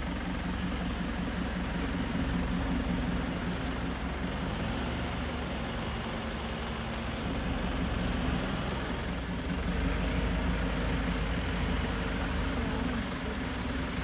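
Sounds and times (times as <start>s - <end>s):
jeep engine running: 0.0s - 14.0s.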